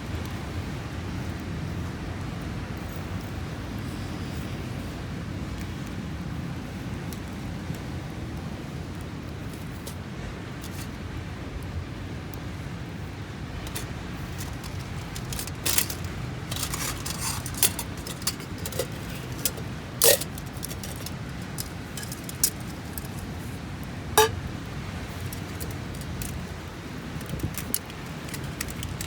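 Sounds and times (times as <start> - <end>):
campfire crackling: 0.2 - 29.0.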